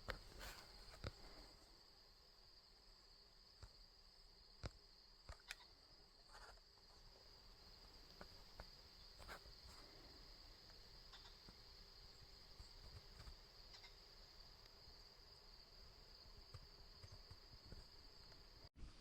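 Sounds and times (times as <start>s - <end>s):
crickets trilling: 0.0s - 18.7s.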